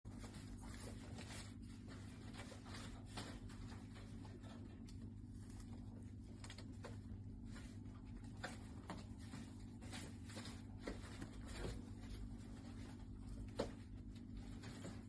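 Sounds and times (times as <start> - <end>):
light scratches and clicks: 0.1 - 15.0
steady low hum: 0.1 - 15.0.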